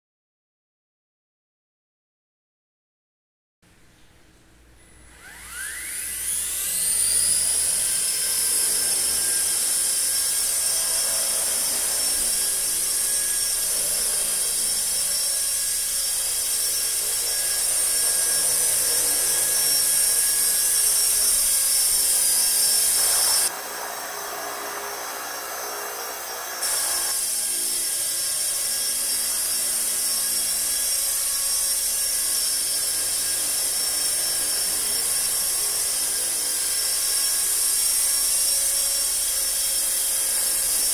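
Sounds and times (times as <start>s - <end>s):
electric helicopter motor whine: 4.8s - 40.9s.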